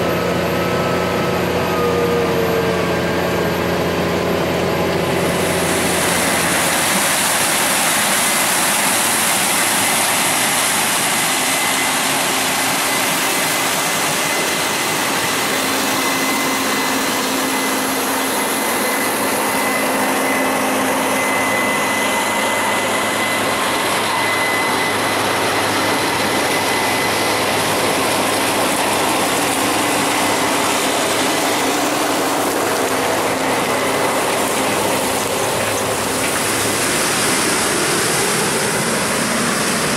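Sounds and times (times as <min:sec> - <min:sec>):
faint high whine: 0:00.0 - 0:39.9
heavy farm machinery running: 0:00.0 - 0:39.9.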